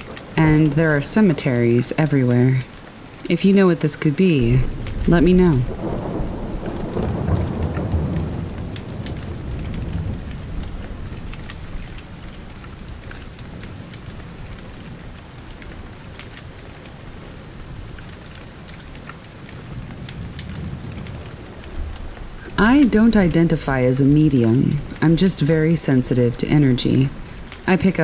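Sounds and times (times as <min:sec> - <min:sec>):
steady rain: 0:00.0 - 0:28.0
low roll of thunder: 0:04.4 - 0:28.0.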